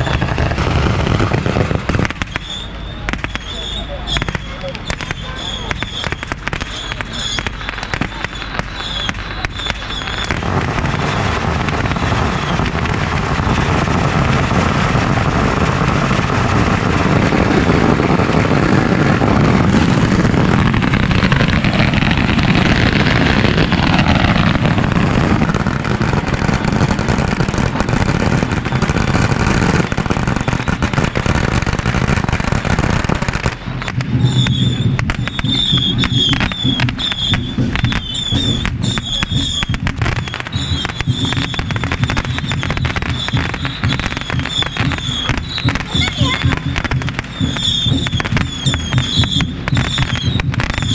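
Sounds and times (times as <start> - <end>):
firecrackers crackling and popping: 0.0 - 50.9.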